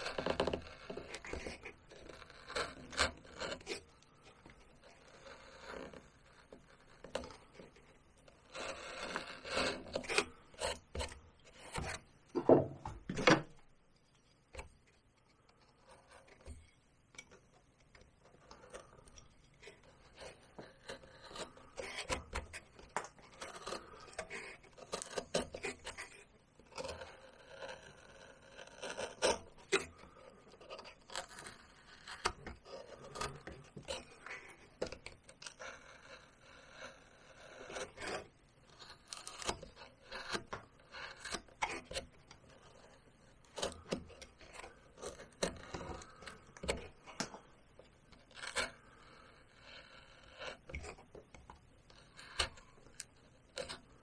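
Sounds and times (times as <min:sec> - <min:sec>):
knife scraping bark: 0:00.0 - 0:07.5, 0:08.4 - 0:12.5, 0:18.4 - 0:47.4, 0:48.1 - 0:51.1, 0:52.0 - 0:54.0.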